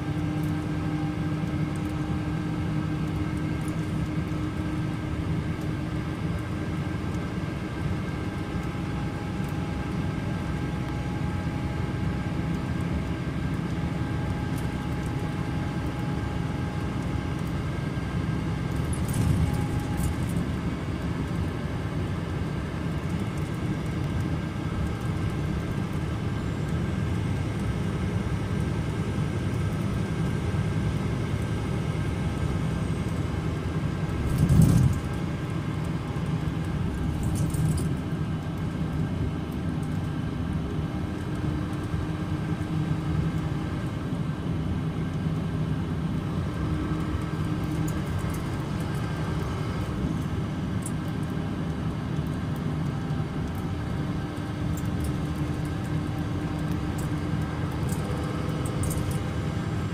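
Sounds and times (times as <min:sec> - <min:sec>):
diesel bus engine rumbling: 0:00.0 - 0:59.9.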